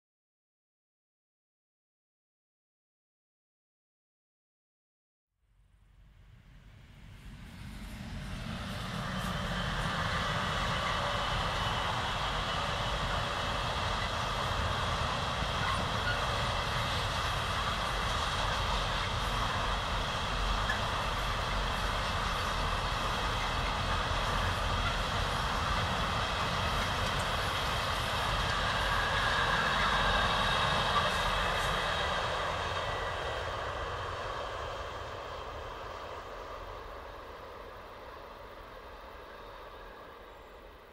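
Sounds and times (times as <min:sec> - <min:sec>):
train wheels rumbling on rail: 0:06.6 - 0:40.9.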